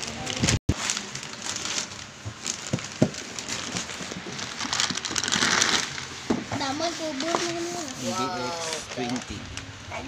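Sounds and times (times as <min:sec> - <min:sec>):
foil bag crinkling: 0:00.0 - 0:09.7.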